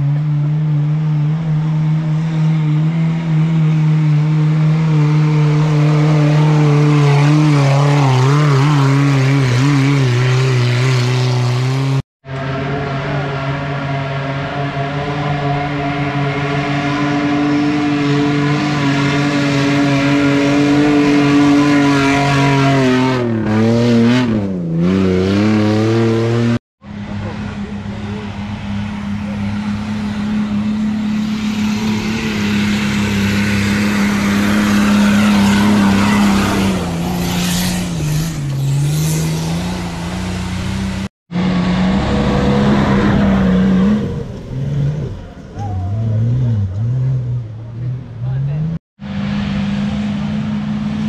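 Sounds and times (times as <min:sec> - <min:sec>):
off-road engines revving: 0:00.0 - 0:51.0.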